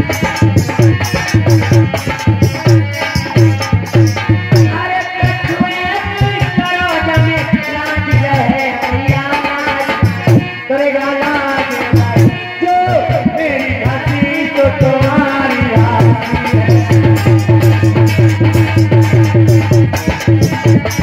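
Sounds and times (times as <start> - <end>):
hand drum beating: 0.0 - 10.6, 11.9 - 21.0.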